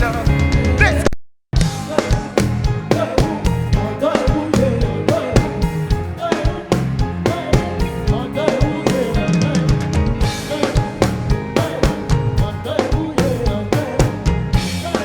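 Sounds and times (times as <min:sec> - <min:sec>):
bass line: 0:00.0 - 0:15.0
drum-kit beat: 0:00.0 - 0:15.0
person singing: 0:00.0 - 0:15.0.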